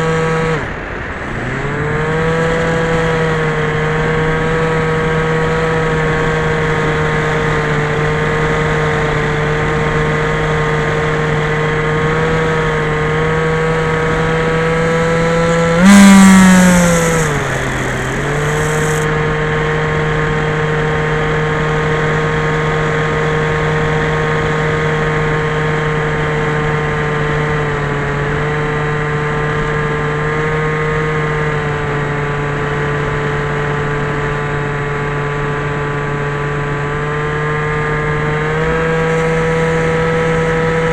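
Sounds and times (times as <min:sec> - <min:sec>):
model plane motor and propeller: 0:00.0 - 0:40.9.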